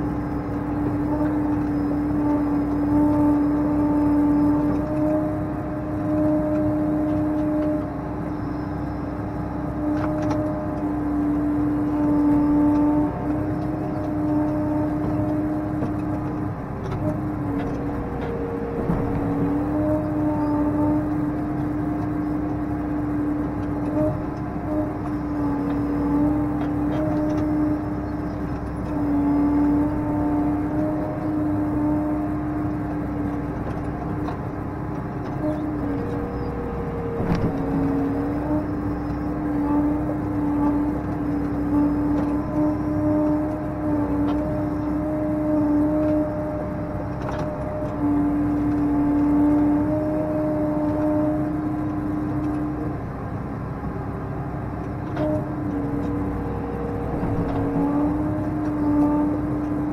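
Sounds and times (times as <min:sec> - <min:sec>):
tractor engine hum: 0:00.0 - 0:59.9.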